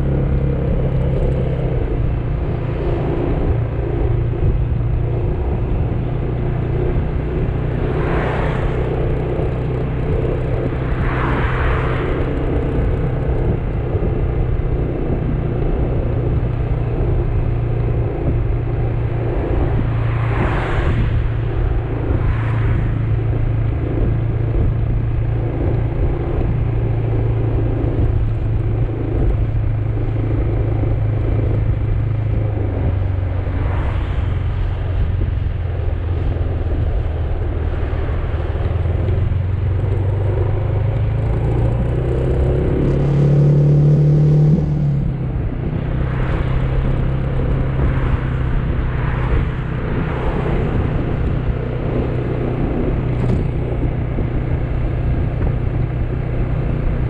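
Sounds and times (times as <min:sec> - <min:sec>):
motor scooter engine humming: 0:00.0 - 0:57.0
road and wind rush: 0:00.0 - 0:57.0.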